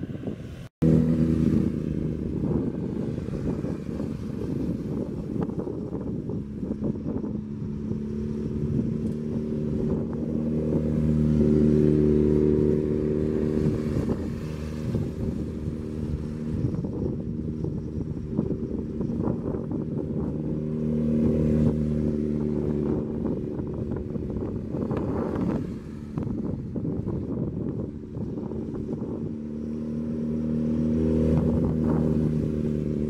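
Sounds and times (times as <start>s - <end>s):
motorcycle engine running: 0.8s - 33.0s.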